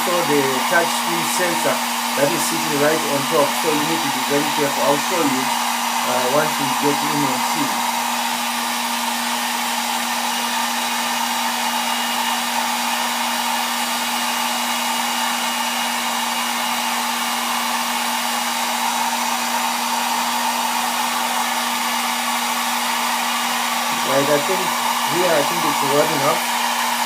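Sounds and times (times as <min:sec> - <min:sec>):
hot-air blower humming: 0:00.0 - 0:27.0.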